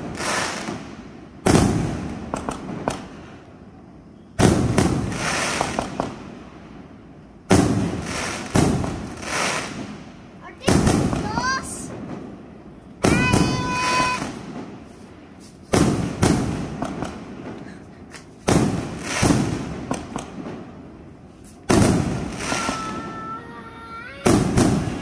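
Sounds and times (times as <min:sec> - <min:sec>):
fireworks crackle: 0:00.0 - 0:03.6, 0:04.4 - 0:25.0
fireworks booming: 0:00.0 - 0:25.0.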